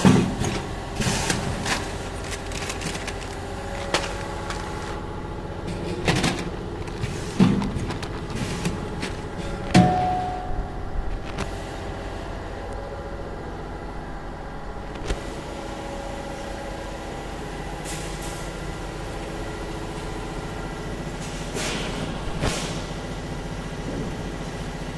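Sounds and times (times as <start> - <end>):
bagging machine hum: 0.0 - 24.9.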